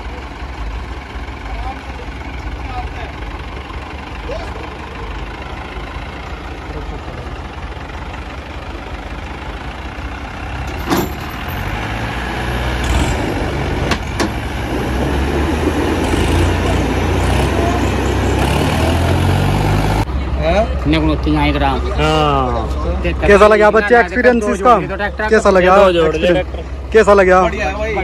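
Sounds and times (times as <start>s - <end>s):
engines straining under load: 0.0s - 28.0s.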